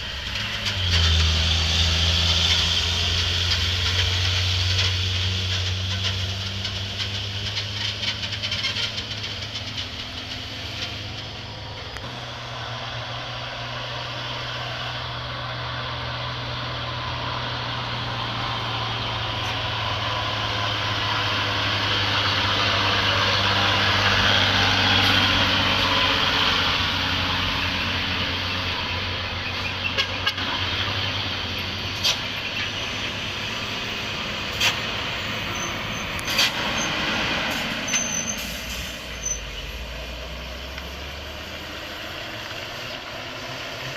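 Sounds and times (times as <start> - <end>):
screeching brakes: 0.0 - 13.5, 17.1 - 43.9
truck engine running low: 0.0 - 43.9.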